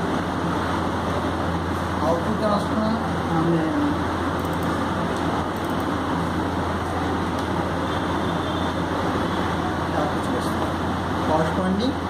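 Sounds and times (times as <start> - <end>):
room hum and rush: 0.0 - 12.0.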